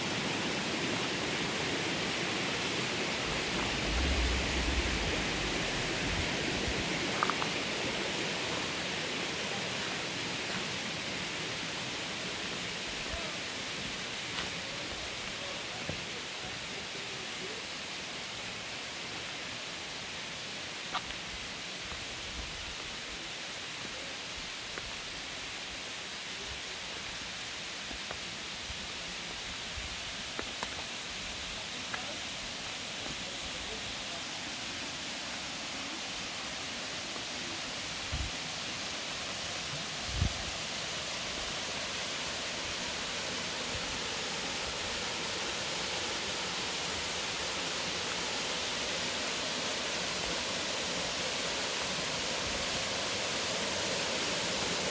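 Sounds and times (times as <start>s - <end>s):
rushing waterfall: 0.0s - 54.9s.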